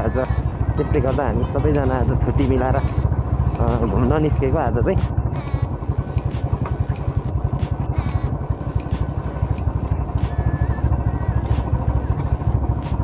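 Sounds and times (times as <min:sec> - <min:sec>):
motorcycle engine and road rumble: 0:00.0 - 0:13.0.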